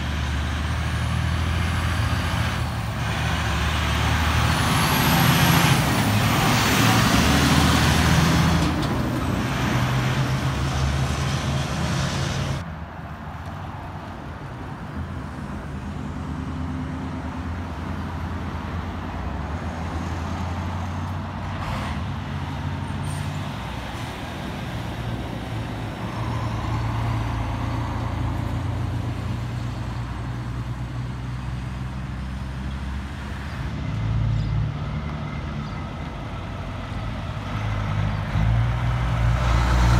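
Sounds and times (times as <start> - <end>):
passing car traffic: 0.0 - 39.9.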